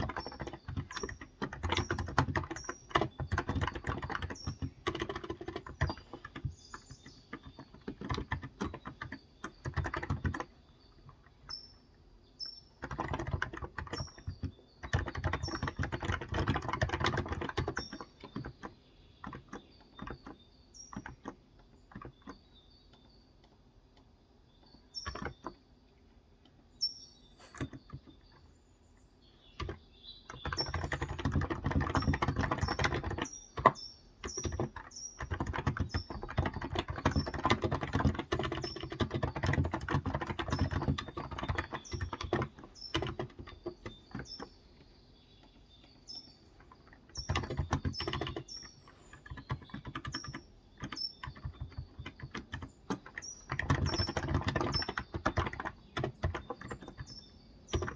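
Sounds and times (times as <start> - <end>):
keyboard typing: 0.0 - 11.6, 12.7 - 24.1, 25.0 - 25.6, 27.4 - 28.5, 29.5 - 57.9
birds chirping: 0.0 - 57.9.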